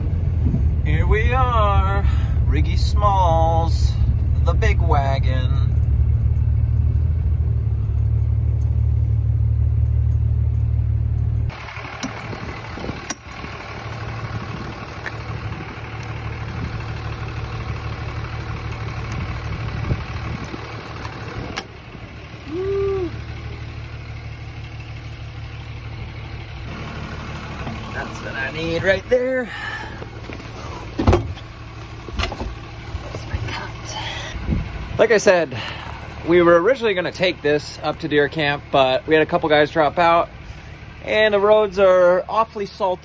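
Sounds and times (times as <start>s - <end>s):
outdoor noise: 0.0s - 43.0s
truck engine rumbling: 0.0s - 43.0s.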